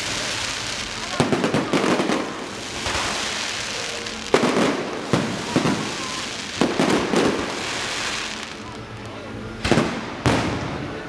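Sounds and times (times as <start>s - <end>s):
fireworks bangs with crackling: 0.0s - 11.0s.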